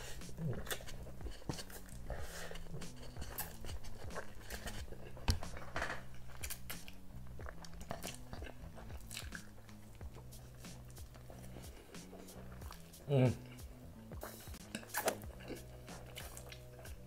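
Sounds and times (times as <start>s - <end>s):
noodle slurping: 0.0s - 17.0s
chewing with mouth clicks: 0.1s - 17.0s.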